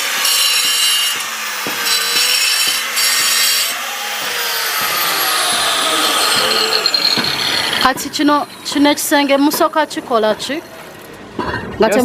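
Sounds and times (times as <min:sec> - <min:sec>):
power cutter grinding stone: 0:00.0 - 0:11.1.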